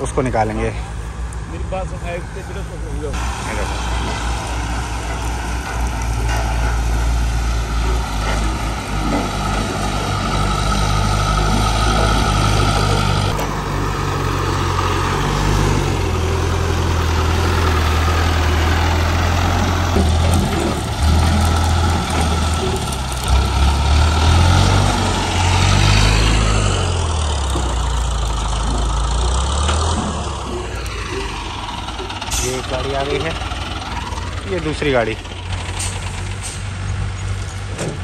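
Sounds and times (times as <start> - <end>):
crane diesel engine revving: 0.0 - 38.0.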